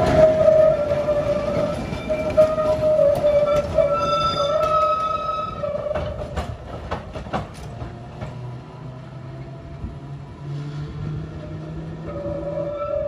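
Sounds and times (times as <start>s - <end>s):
tram humming: 0.0s - 13.0s
tram wheels clicking on rails: 0.0s - 13.0s.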